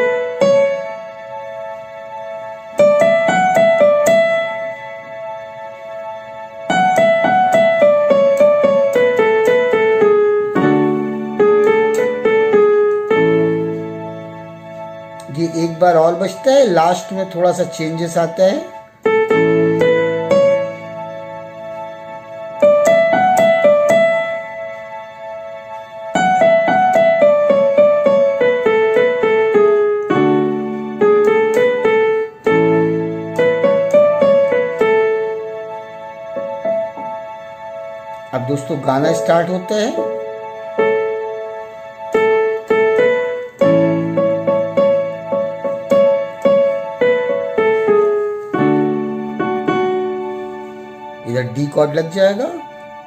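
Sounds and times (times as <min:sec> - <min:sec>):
low sustained keyboard chord: 0:00.0 - 0:53.0
piano melody on keyboard: 0:00.0 - 0:53.0.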